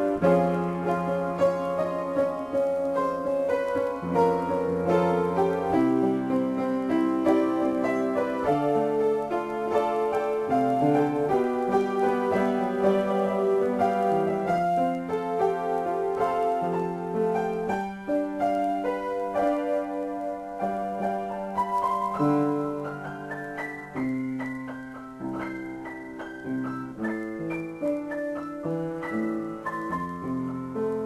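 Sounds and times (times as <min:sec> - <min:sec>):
solo piano: 0:00.0 - 0:31.0.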